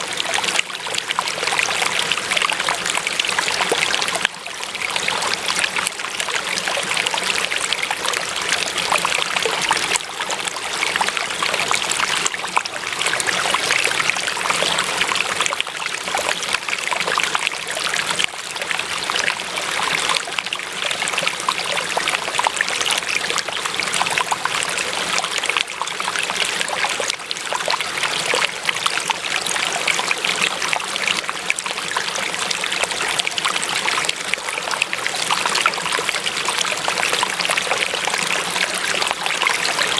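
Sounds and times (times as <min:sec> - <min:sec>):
stream water trickling and splashing: 0:00.0 - 0:39.9.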